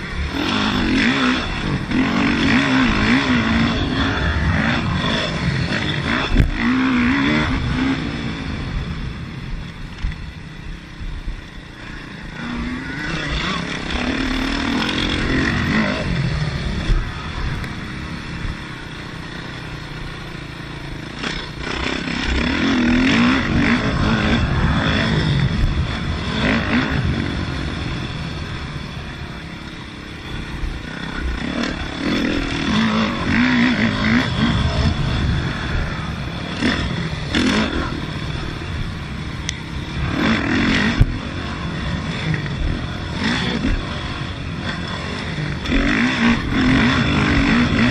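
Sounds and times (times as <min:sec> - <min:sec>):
motocross engine revving: 0:00.0 - 0:09.3, 0:11.4 - 0:47.9.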